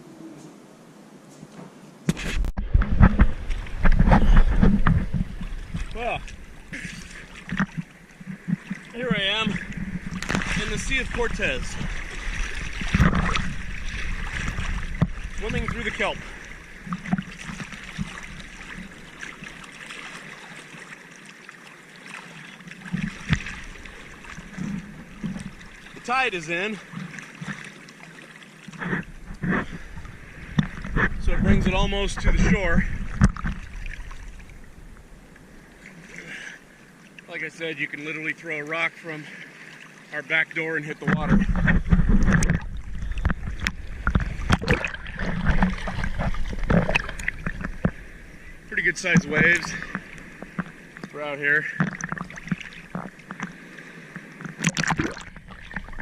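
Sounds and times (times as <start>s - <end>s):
sea water splashing: 2.0s - 56.0s
seawater sloshing and trickling: 2.2s - 56.0s.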